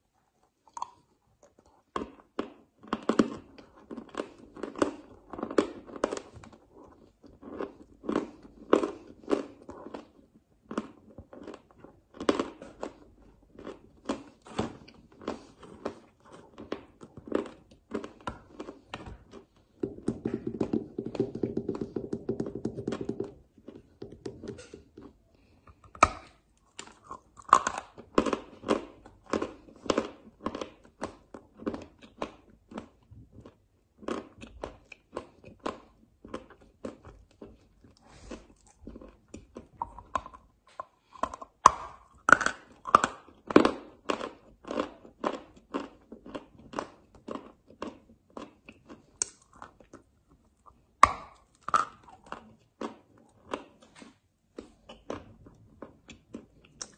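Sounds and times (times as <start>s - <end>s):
crunching and chewing chalk: 0.0s - 56.9s.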